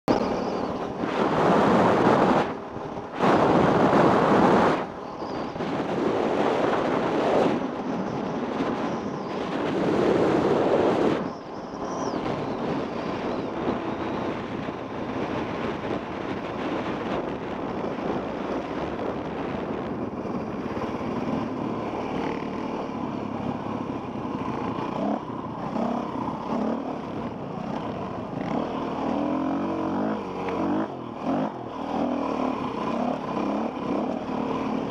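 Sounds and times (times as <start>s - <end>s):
dirt bike engine revving: 0.1s - 7.8s, 8.4s - 34.9s
wind on microphone: 0.1s - 34.9s.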